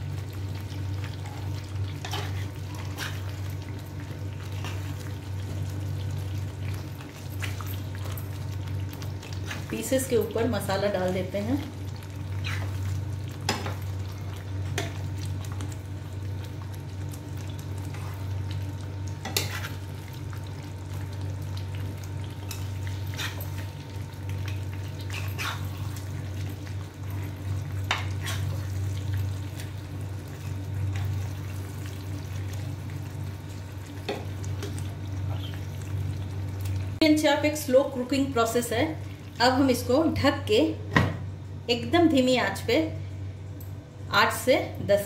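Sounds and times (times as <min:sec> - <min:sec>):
quiet frying sizzle: 0:00.0 - 0:45.0.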